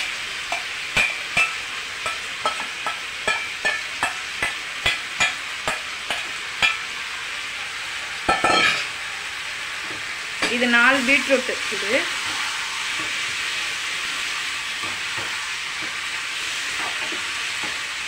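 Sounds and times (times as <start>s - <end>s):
hot oil sizzling: 0.0s - 18.0s.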